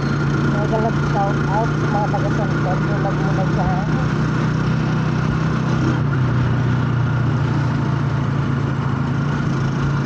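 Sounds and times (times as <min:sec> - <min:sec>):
road noise: 0:00.0 - 0:10.0
vehicle engine hum: 0:00.0 - 0:10.0.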